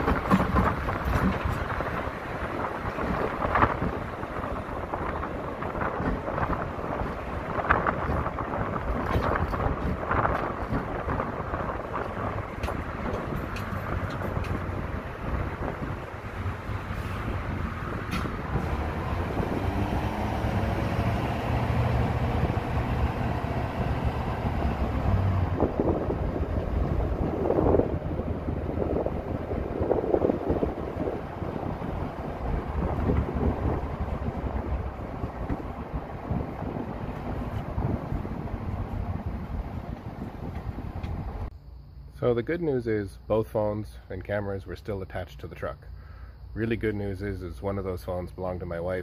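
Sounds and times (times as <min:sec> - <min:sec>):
wind buffeting microphone: 0:00.0 - 0:41.5
deep road rumble: 0:00.0 - 0:49.0.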